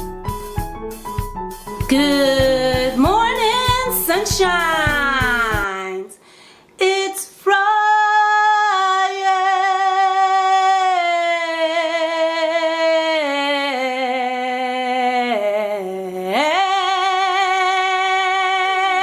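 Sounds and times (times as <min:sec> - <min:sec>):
woman singing long note: 0:01.9 - 0:06.1, 0:06.8 - 0:19.0.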